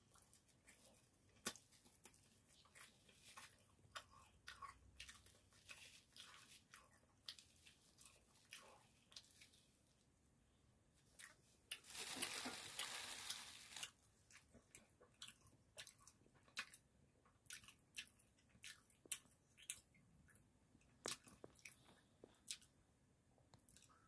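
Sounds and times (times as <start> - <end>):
close-miked chewing: 0.0 - 9.9, 11.0 - 22.8, 23.5 - 24.0.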